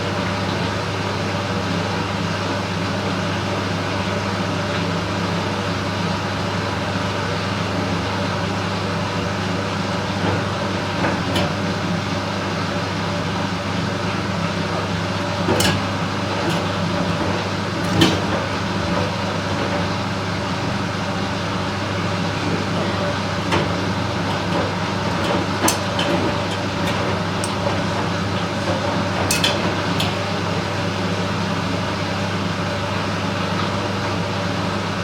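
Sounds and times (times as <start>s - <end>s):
washing machine humming: 0.0s - 35.0s.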